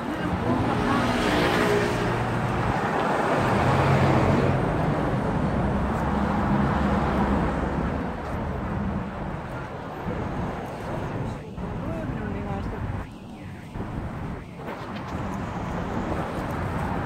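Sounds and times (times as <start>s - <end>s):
road noise: 0.0s - 17.0s
vehicle engines humming: 0.0s - 17.0s.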